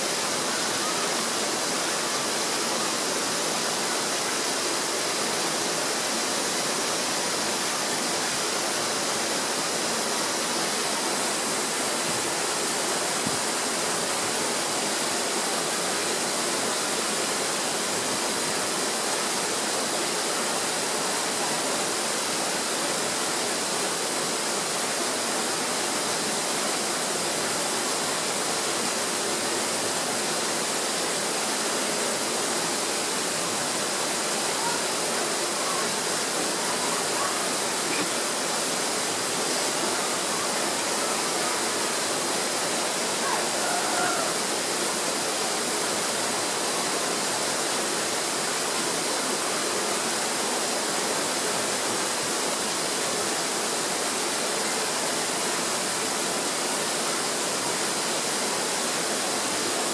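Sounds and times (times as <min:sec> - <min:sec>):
rushing running water: 0:00.0 - 0:59.9.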